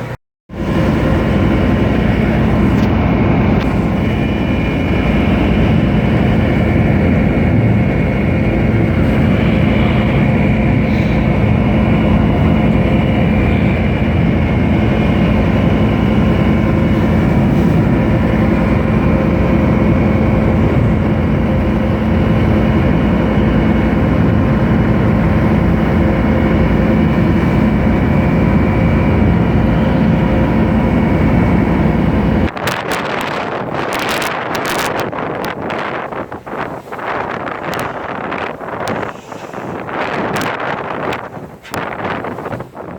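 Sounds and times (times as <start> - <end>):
ship engine humming: 0.0 - 42.9
wind buffeting microphone: 0.0 - 42.9.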